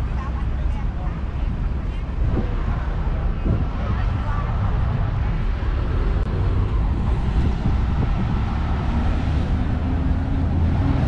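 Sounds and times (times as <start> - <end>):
low engine hum: 0.0 - 11.0
wind rumbling on microphone: 0.0 - 11.0.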